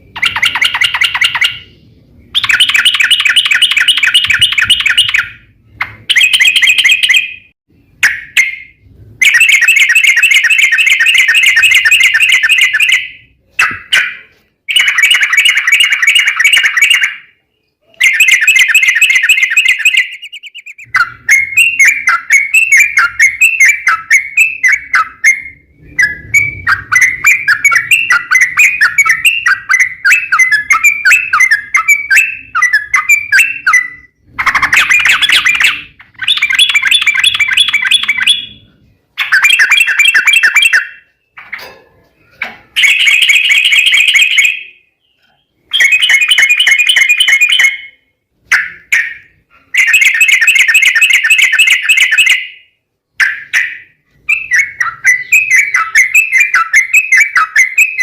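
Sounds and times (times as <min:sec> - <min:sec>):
bird singing rapid trill: 0:00.0 - 0:41.4, 0:42.8 - 0:58.0.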